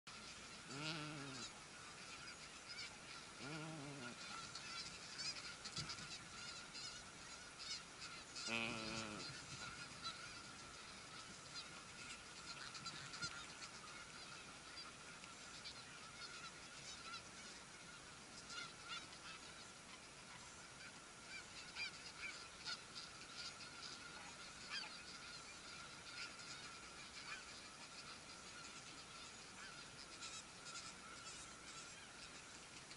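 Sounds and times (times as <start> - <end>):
distant high goose calls: 0.1 - 32.6
geese honking: 0.1 - 32.8.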